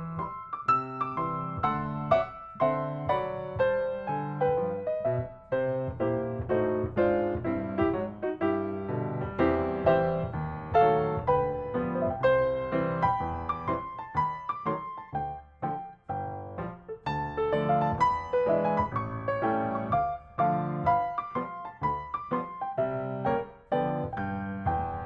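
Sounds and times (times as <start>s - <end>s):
solo piano playing: 0.0s - 25.0s.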